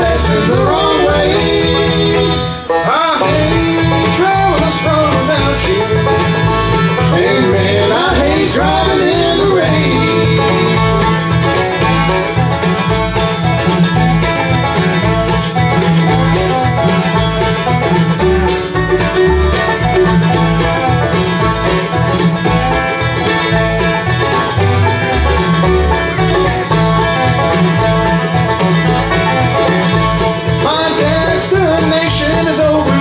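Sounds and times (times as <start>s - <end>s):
bluegrass band playing: 0.0s - 33.0s.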